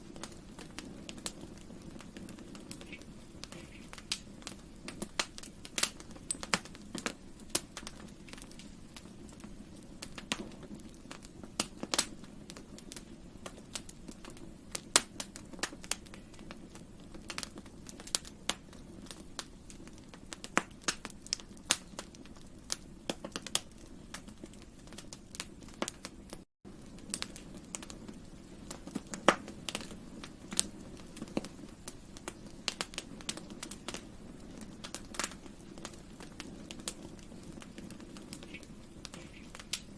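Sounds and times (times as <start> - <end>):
low fire background: 0.0 - 39.9
wood crackling and popping: 0.0 - 39.9.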